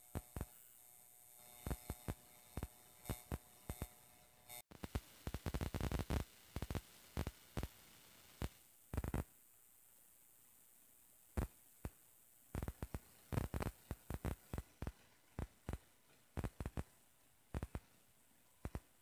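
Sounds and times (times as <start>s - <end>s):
faint hiss: 0.0s - 19.0s.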